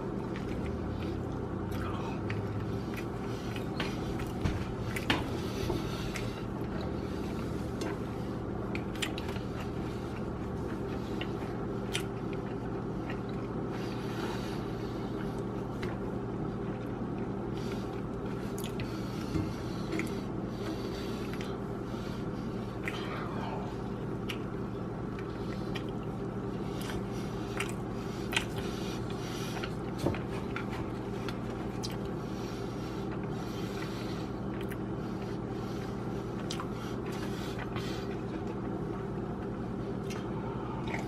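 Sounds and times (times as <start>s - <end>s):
person chewing food: 0.0s - 41.0s
steady low hum: 0.0s - 41.0s.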